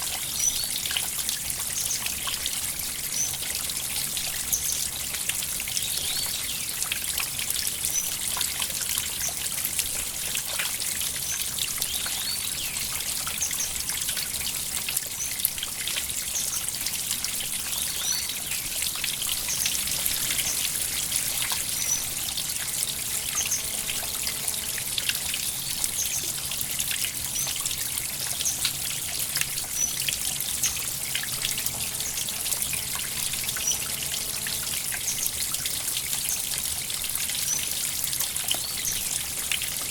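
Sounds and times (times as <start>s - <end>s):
water trickling in stream: 0.0s - 39.9s.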